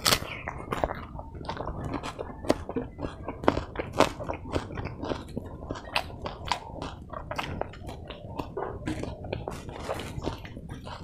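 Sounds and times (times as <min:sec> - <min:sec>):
lip and tongue clicks: 0:00.0 - 0:11.0
person chewing food: 0:00.0 - 0:11.0.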